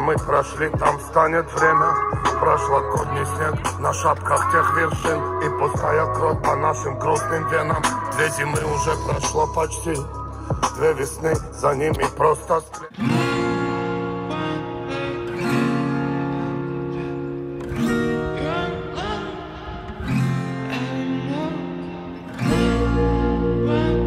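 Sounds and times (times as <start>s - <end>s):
deep bass: 0.0s - 20.5s, 21.3s - 24.0s
plucked guitar notes: 0.0s - 24.0s.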